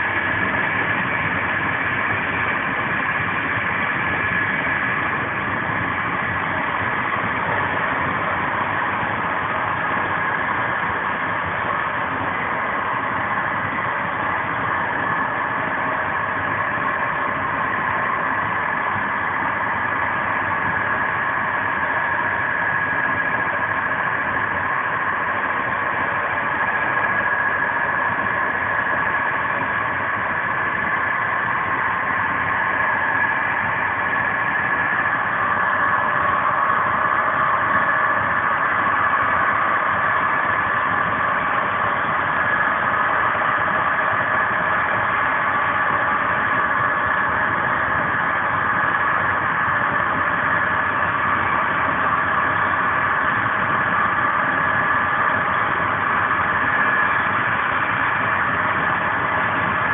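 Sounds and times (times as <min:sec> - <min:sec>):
steady high hum: 0:00.0 - 0:59.9.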